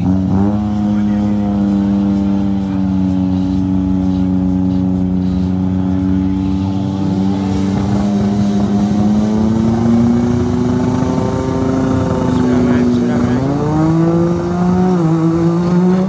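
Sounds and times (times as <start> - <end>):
small car engine revving high: 0.0 - 16.0.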